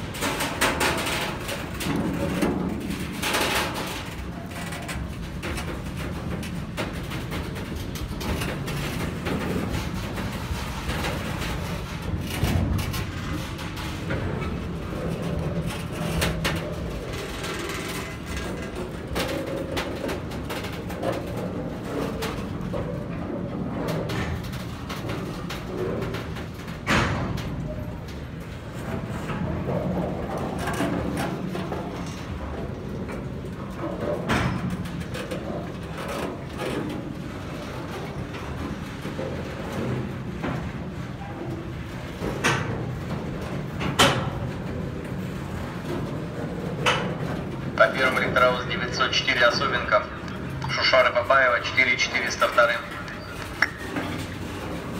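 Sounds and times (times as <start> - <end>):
freight train rumble: 0.0 - 54.9
wheels and couplings clanking: 0.0 - 54.9.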